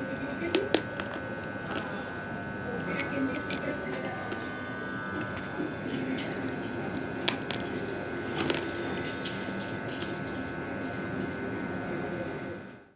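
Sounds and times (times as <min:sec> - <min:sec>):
steady high hum: 0:00.0 - 0:12.9.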